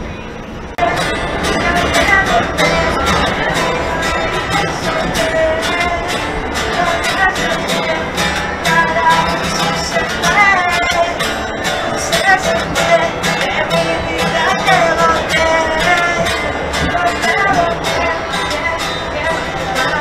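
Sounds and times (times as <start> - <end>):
acoustic guitar strummed: 0.2 - 20.0
man singing: 0.8 - 20.0.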